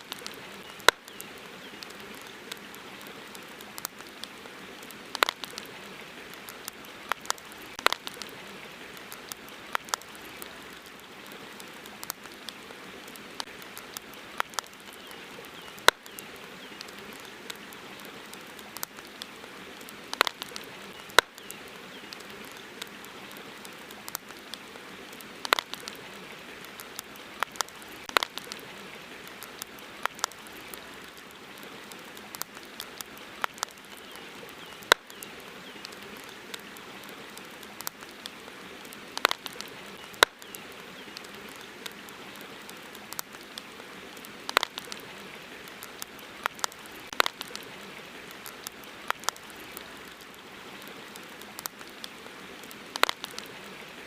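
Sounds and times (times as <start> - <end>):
campfire crackling and popping: 0.0 - 54.0
flowing river water: 0.0 - 54.0.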